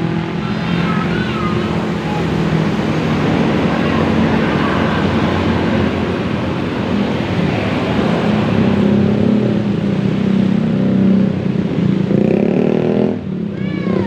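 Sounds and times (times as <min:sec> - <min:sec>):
bus diesel engine accelerating: 0:00.0 - 0:12.1.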